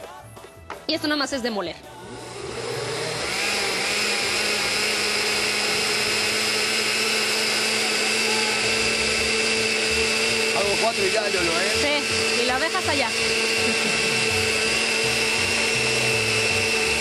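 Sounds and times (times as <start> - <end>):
blender motor running: 1.9 - 17.0.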